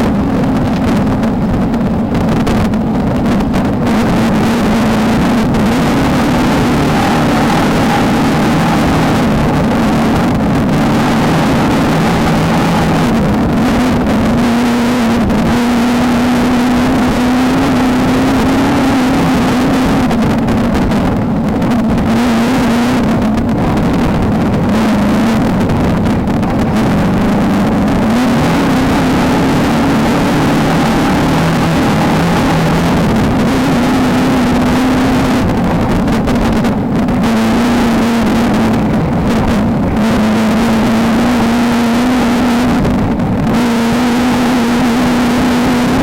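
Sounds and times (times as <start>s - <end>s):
race car engine running hard: 0.0s - 46.0s
steady rushing noise: 0.0s - 46.0s.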